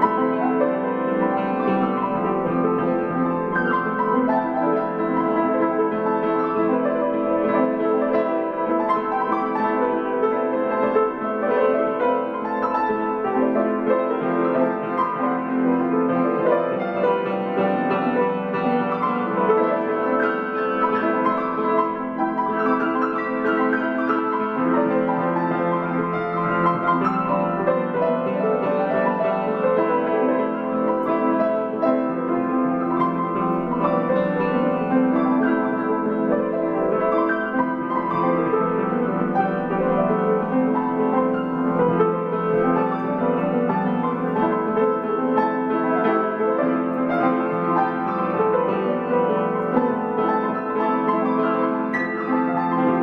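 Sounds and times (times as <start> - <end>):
grand piano playing: 0.0 - 53.0.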